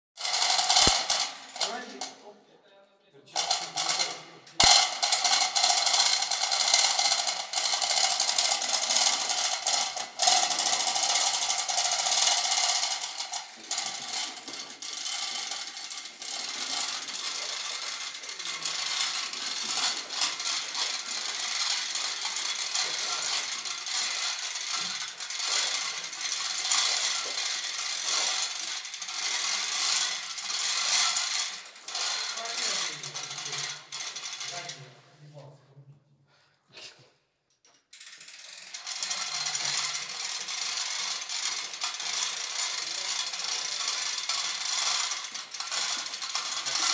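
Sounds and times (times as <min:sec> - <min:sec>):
ratchet pawl clicking: 0:00.2 - 0:02.2, 0:03.4 - 0:34.8, 0:37.8 - 0:46.9
chain rattling through hoist: 0:00.2 - 0:02.3, 0:03.4 - 0:35.0, 0:37.6 - 0:46.9.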